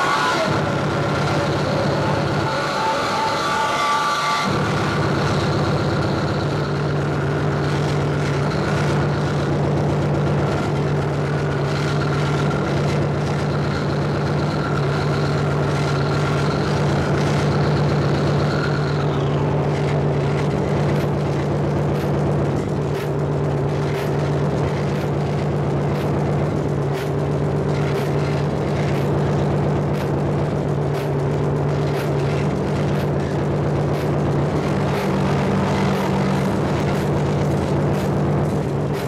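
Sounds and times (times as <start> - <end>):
distorted electronic noise: 0.0 - 39.0
steady low drone: 0.0 - 39.0.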